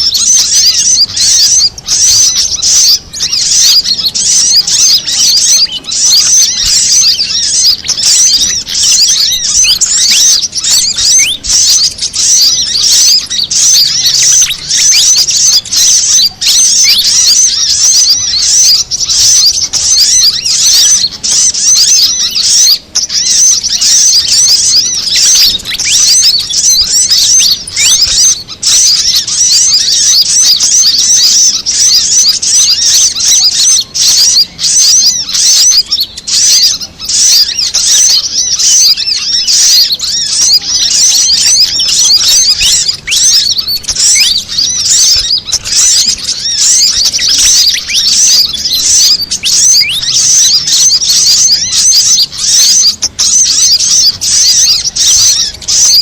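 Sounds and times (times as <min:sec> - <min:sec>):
birds twittering: 0:00.0 - 0:56.0.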